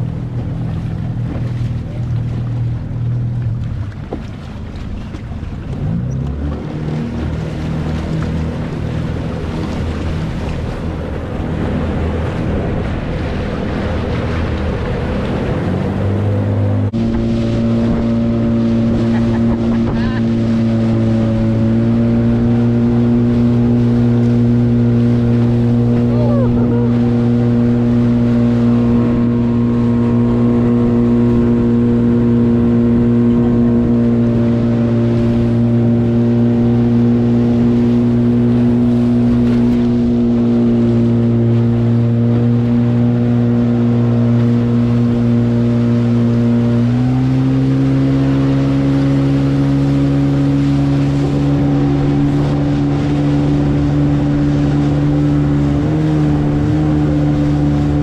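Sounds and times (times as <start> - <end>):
outboard motor running: 0.0 - 58.0
water rushing along hull: 0.0 - 58.0.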